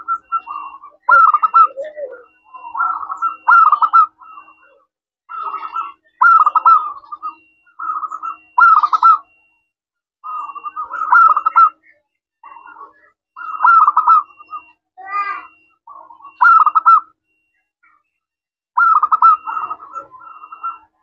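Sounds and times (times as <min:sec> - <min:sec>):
dove cooing: 0:00.0 - 0:09.4, 0:10.2 - 0:11.8, 0:12.4 - 0:17.1, 0:18.8 - 0:21.0.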